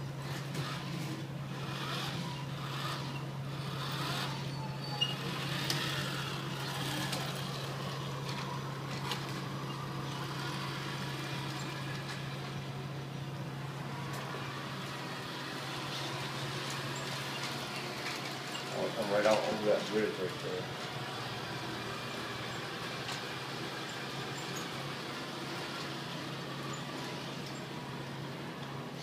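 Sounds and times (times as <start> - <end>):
model truck motor humming: 0.0 - 29.0.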